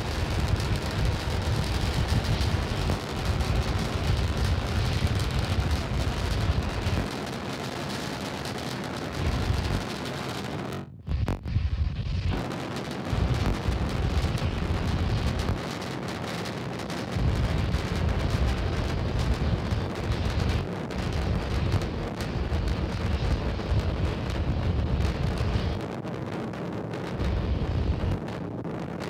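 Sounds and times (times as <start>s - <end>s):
rocket engines rumbling: 0.0s - 29.0s.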